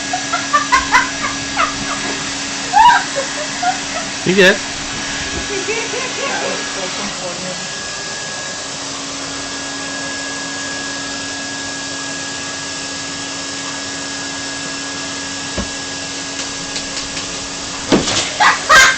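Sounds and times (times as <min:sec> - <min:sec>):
vacuum cleaner running: 0:00.0 - 0:18.9.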